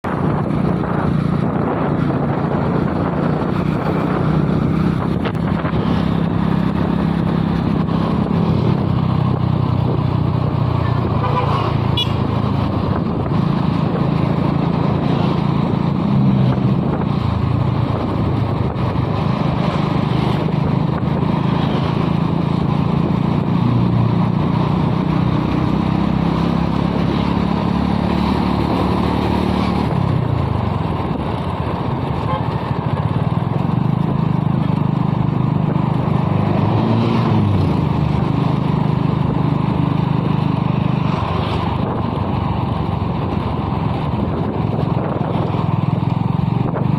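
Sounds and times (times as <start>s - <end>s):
motor vehicle engine running: 0.0s - 46.9s.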